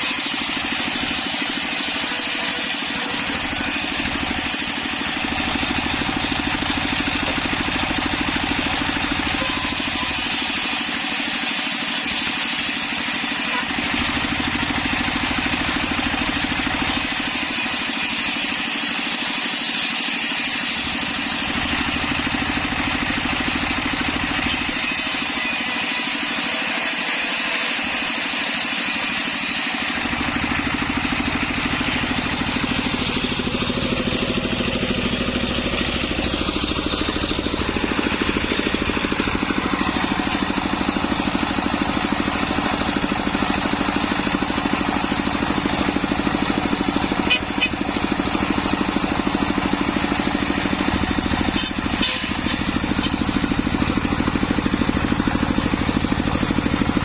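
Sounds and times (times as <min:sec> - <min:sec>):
circular saw engine running: 0:00.0 - 0:57.0.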